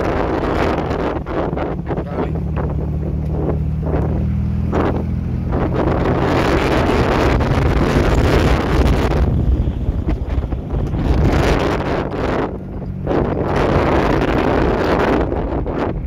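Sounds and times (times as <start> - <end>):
dune buggy engine running: 0.0 - 16.0
wind noise on microphone: 0.0 - 16.0.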